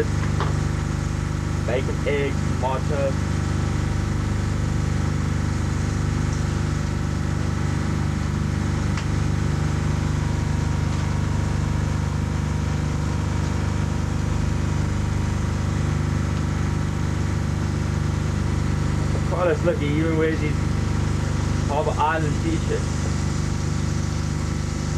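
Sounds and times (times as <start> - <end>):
low engine drone: 0.0 - 24.9.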